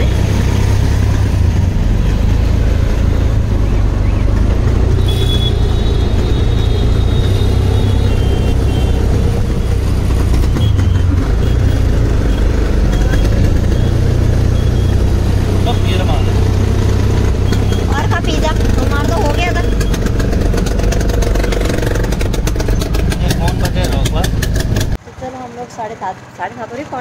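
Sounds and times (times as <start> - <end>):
auto-rickshaw engine rumble: 0.0 - 27.0
road noise: 0.0 - 27.0.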